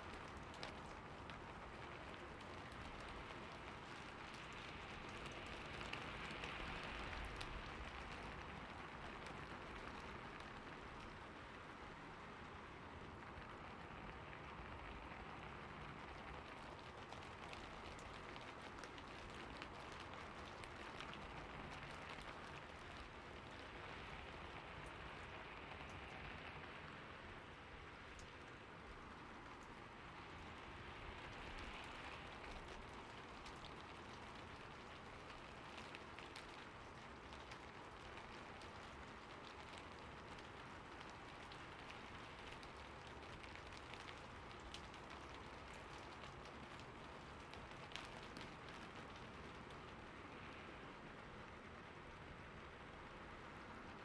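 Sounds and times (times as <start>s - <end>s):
soft hiss of rain: 0.0s - 54.0s
ticks of raindrops: 0.0s - 54.0s.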